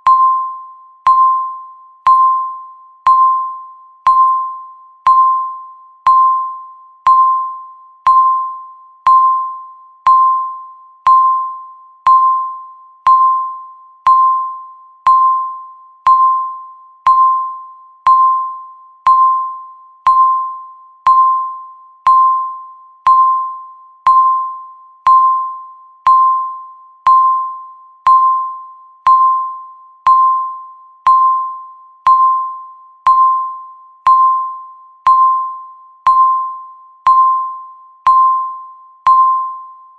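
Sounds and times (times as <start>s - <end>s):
countdown timer beeping: 0.0s - 39.8s.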